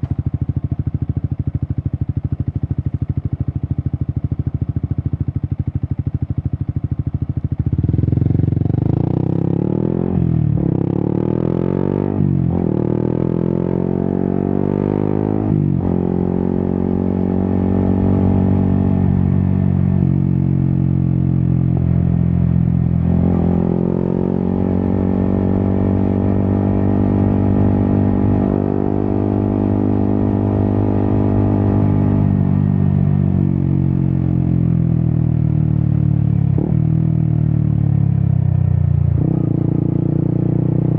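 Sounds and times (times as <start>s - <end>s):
motorcycle engine revving: 6.2s - 40.9s.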